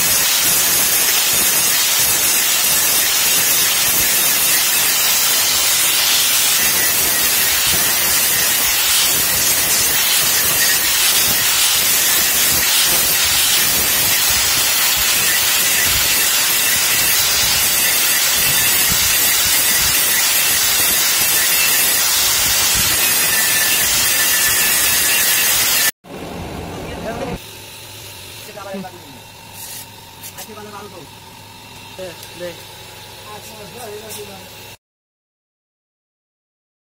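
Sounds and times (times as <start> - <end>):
angle grinder grinding steel: 0.0 - 25.9, 27.4 - 34.8.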